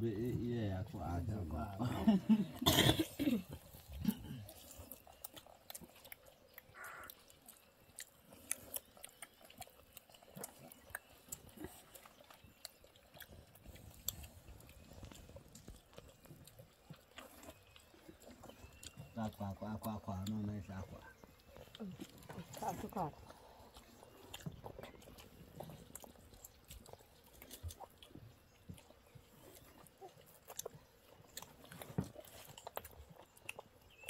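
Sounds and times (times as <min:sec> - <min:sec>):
chewing mouth sounds: 0:02.3 - 0:34.0.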